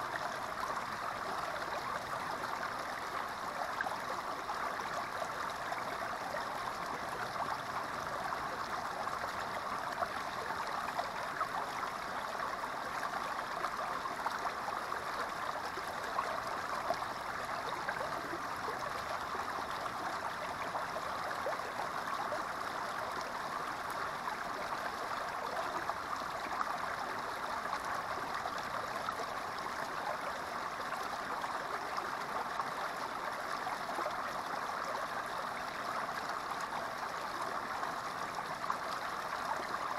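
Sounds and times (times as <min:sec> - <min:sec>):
creek water splashing and trickling: 0:00.0 - 0:39.9.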